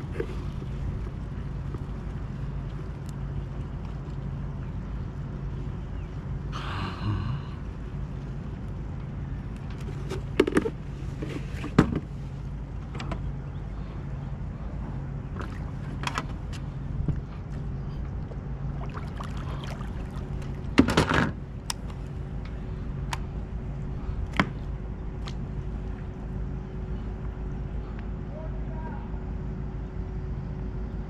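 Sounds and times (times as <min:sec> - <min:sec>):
light water noise: 0:00.0 - 0:28.2
steady low hum: 0:00.0 - 0:31.0.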